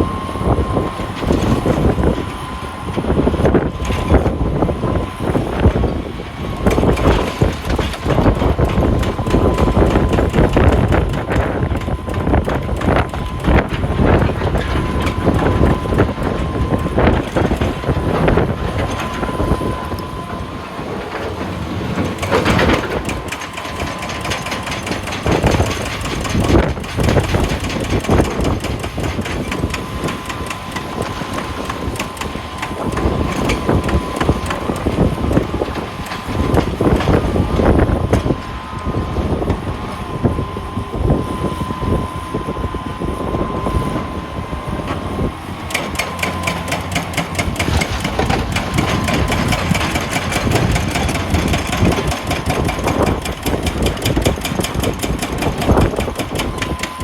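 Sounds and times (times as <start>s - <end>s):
wheel loader whining: 0.0s - 57.0s.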